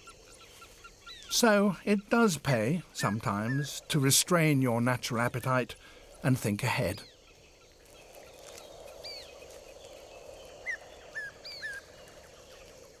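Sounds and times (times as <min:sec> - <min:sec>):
bird calls: 0:00.0 - 0:13.0
outdoor background hiss: 0:00.0 - 0:13.0.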